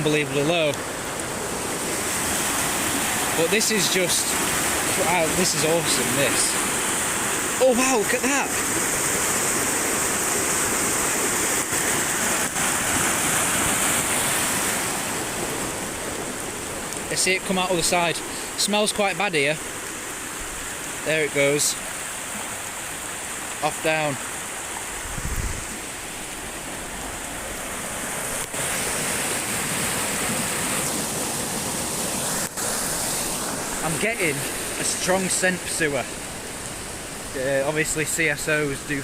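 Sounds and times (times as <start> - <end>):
fast-flowing floodwater rushing: 0.0 - 39.0.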